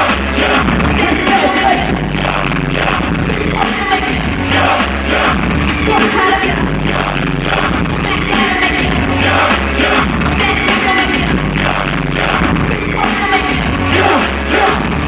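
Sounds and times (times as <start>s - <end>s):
live pop music with singing: 0.0s - 15.0s.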